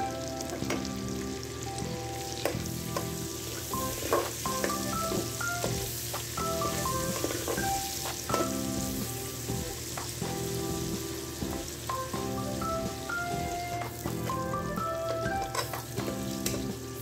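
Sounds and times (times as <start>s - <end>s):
background music: 0.0s - 17.0s
onions sizzling in hot oil: 0.0s - 17.0s.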